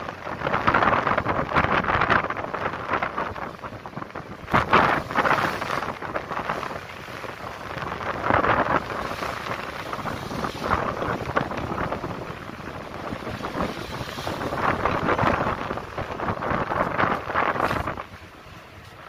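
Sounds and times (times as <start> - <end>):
sea splashing against boat: 0.0 - 19.0
wind buffeting microphone: 0.0 - 19.0.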